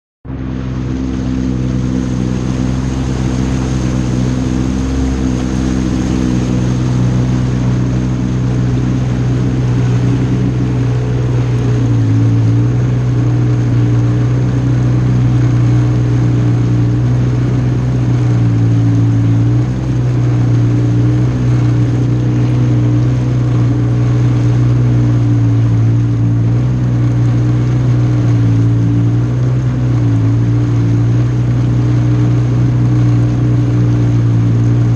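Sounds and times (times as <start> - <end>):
jet ski engine running: 0.2 - 34.9.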